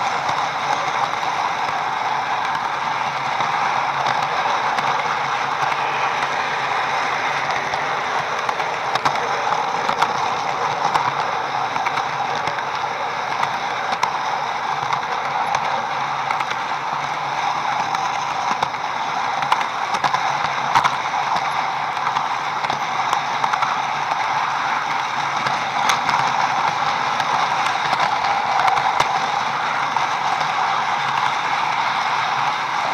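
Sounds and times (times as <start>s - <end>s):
model train motor whir: 0.0s - 32.9s
wheels clicking on rails: 0.0s - 32.9s.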